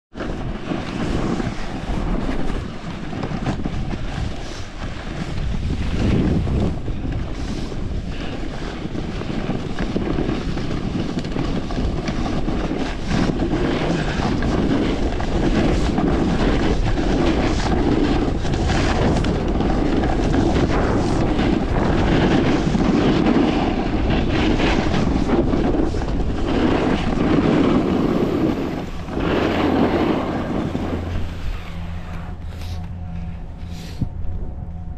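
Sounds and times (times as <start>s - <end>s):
wind rushing over microphone: 0.1s - 34.9s
snowboard scraping on snow: 0.2s - 34.1s.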